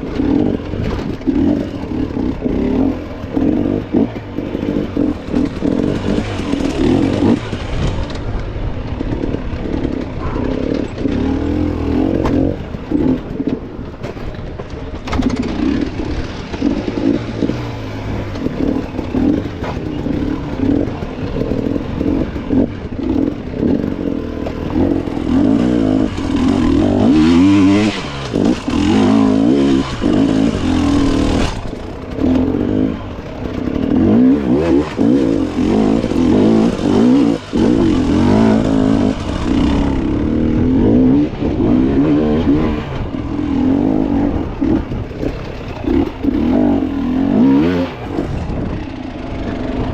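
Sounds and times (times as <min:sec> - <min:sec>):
dirt bike engine running hard: 0:00.0 - 0:49.9.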